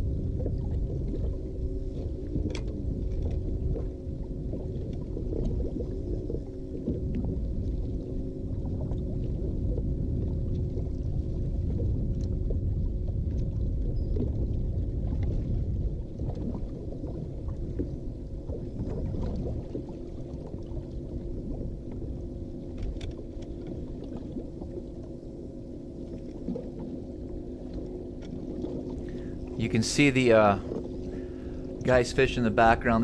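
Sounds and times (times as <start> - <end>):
electric motor hum: 0.0 - 13.8, 14.4 - 33.0
wind and water rumble: 0.0 - 33.0.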